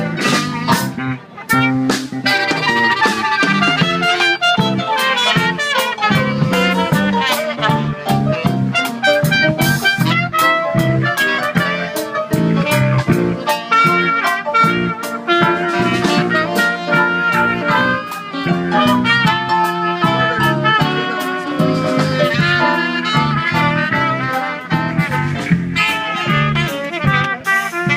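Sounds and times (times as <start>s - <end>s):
drum kit steady beat: 0.0s - 27.9s
electric guitar: 0.0s - 27.9s
keyboard: 0.0s - 27.9s
saxophone: 0.0s - 27.9s
trumpet: 0.0s - 27.9s.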